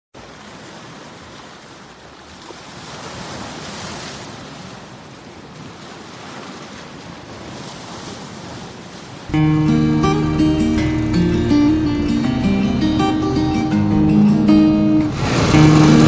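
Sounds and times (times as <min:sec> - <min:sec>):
ocean waves washing onto shore: 0:00.2 - 0:16.0.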